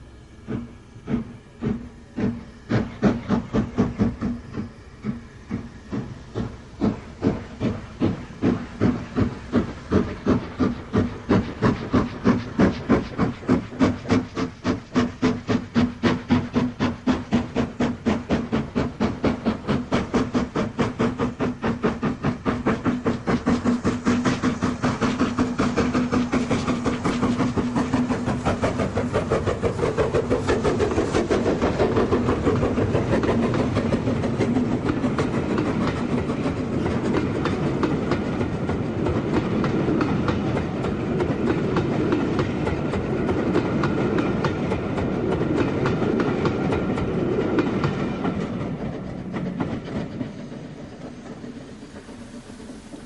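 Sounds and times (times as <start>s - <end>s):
steam locomotive exhaust beats: 0.0s - 53.0s
train rumble: 0.0s - 53.0s.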